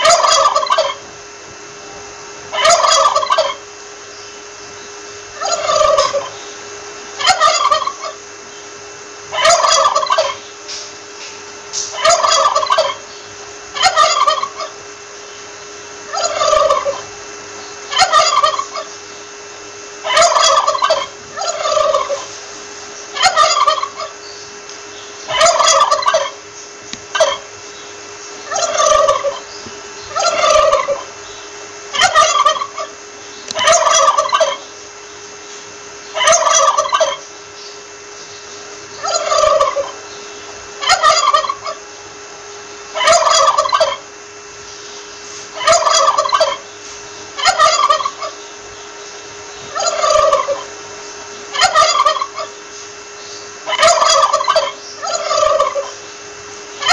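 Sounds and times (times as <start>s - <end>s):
turkey gobbling: 0.0s - 1.2s, 1.9s - 3.7s, 5.3s - 8.4s, 9.2s - 10.8s, 11.8s - 15.2s, 16.0s - 19.2s, 20.0s - 22.4s, 23.1s - 24.3s, 25.2s - 34.8s, 36.0s - 37.3s, 38.4s - 44.6s, 45.5s - 56.9s.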